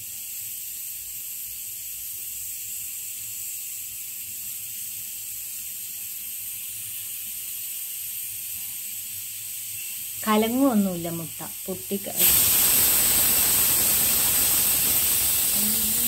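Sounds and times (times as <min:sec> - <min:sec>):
pressure cooker steam hissing: 0:00.0 - 0:16.0.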